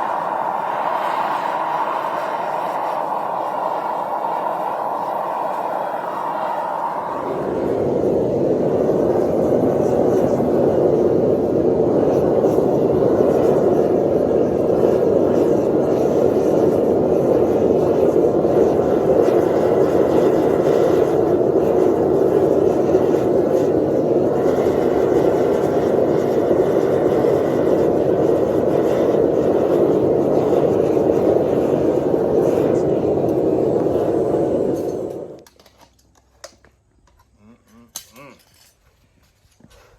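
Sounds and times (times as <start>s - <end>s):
furnace roaring: 0.0s - 38.8s.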